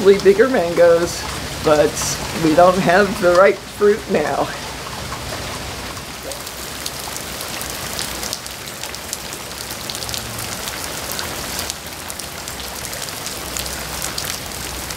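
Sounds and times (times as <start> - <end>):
rain splashing onto water: 0.0 - 14.9.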